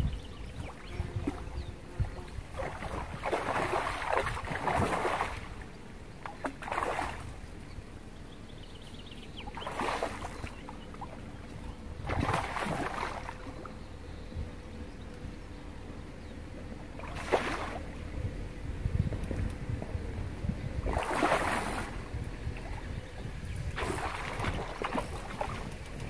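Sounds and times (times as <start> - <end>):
low wind rumble: 0.0 - 26.0
water lapping against bank: 0.0 - 26.0.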